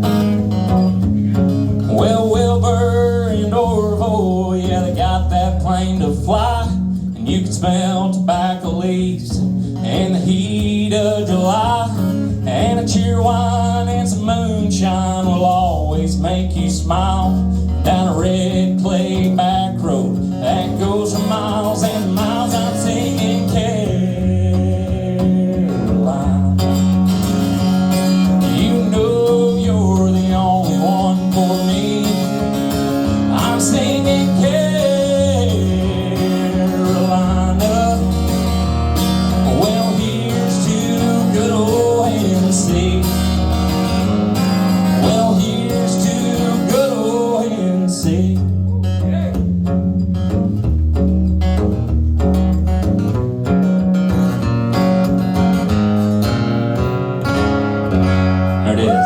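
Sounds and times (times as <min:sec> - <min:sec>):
low bass: 0:00.0 - 0:59.0
strummed acoustic guitar: 0:00.0 - 0:59.0.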